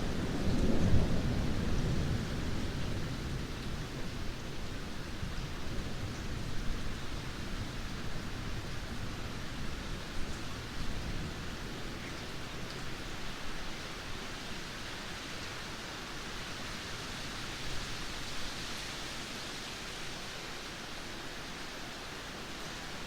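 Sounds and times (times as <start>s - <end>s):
heavy rain hissing: 0.0s - 23.0s
low rumble of wind: 0.0s - 23.0s.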